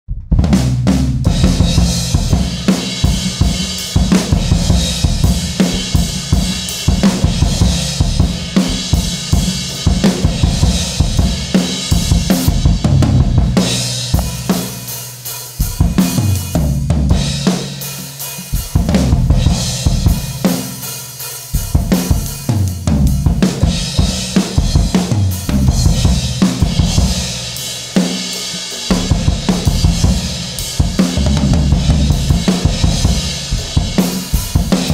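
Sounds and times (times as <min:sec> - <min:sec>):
drum kit groove: 0:00.1 - 0:34.9.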